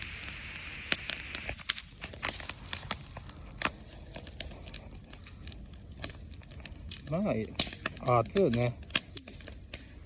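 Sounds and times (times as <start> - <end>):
bonfire crackling: 0.0 - 10.0
sharp pops and snaps: 0.0 - 10.0.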